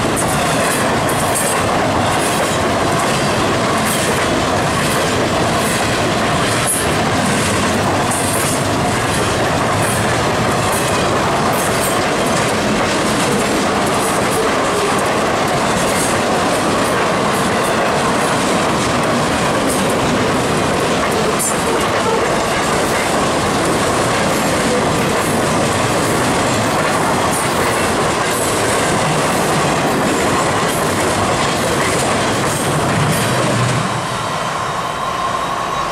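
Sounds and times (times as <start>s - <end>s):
wheels on rail noise: 0.0s - 35.9s.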